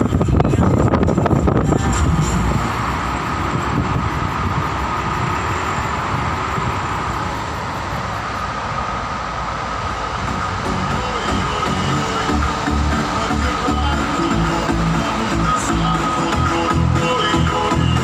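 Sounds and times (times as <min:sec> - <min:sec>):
high whine: 0:00.0 - 0:18.0
vehicle rumbling in tunnel: 0:00.0 - 0:18.0.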